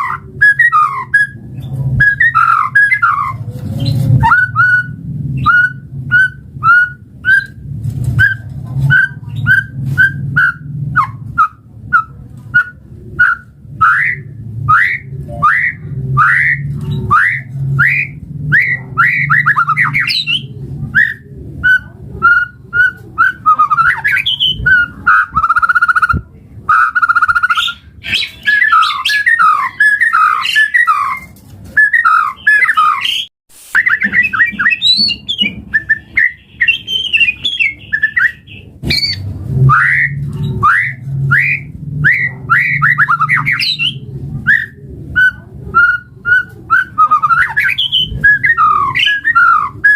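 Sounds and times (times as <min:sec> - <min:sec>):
songbird singing whistles and trills: 0:00.0 - 0:07.6, 0:08.2 - 0:49.9.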